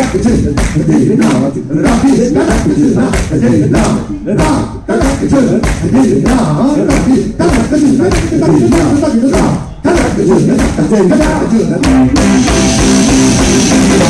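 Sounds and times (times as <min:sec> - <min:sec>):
sharp percussive hits: 0:00.0 - 0:14.0.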